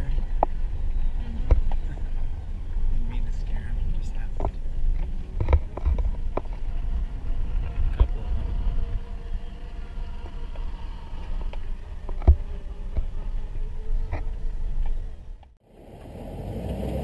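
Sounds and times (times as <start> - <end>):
vehicle rumbling over rough trail: 0.0 - 17.0.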